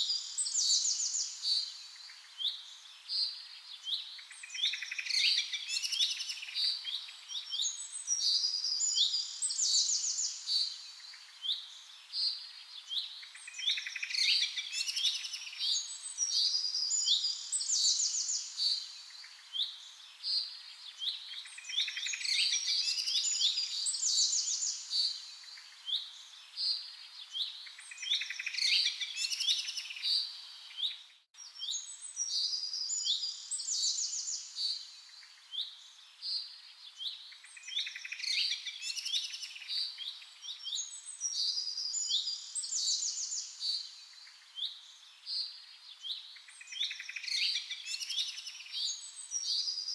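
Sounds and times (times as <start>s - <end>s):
birds singing: 0.0s - 49.9s.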